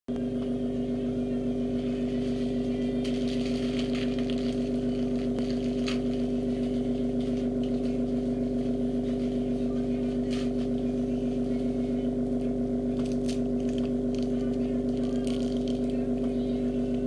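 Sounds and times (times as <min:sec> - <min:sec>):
low two-tone mechanical hum: 0:00.1 - 0:17.0.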